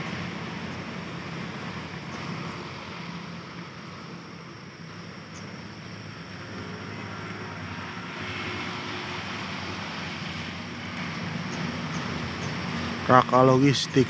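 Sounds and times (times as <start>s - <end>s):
traffic noise: 0.0s - 14.0s
vehicle engine running: 0.0s - 14.0s.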